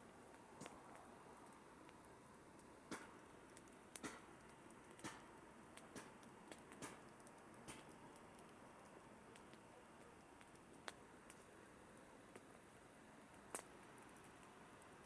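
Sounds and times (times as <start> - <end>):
campfire crackling and popping: 0.0 - 15.0
faint fire hiss: 0.0 - 15.0.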